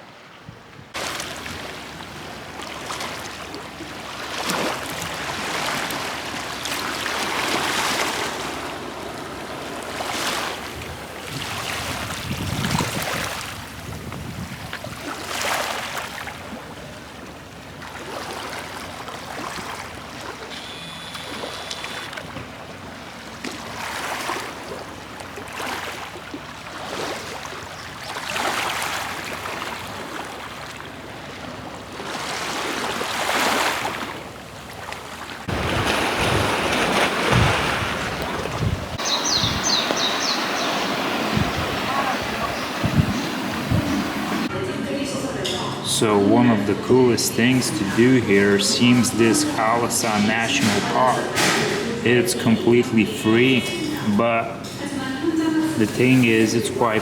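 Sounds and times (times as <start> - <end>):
sea waves washing in: 0.9 - 54.4.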